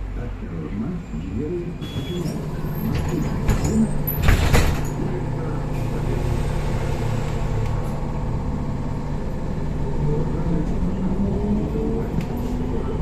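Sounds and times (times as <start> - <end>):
trolleybus hum from inside: 0.0 - 13.0.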